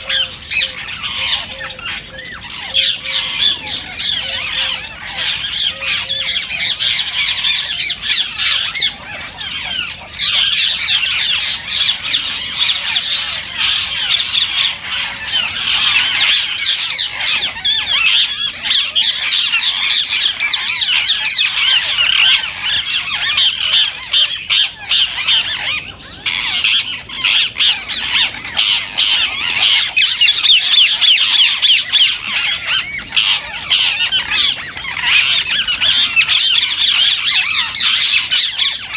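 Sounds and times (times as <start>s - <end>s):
parakeets calling shrilly: 0.0s - 38.9s.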